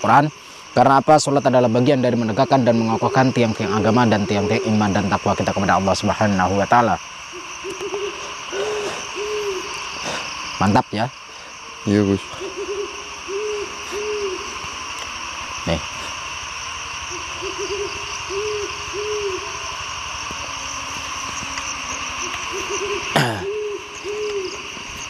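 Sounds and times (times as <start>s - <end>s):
night insects chirring: 0.0s - 25.0s
owl hooting: 1.7s - 25.0s.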